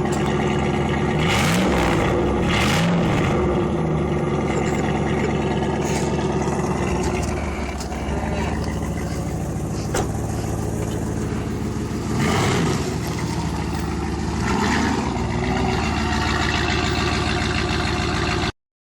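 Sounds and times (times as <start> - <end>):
engine exhaust idling: 0.0 - 18.5
engine revving: 0.0 - 18.5.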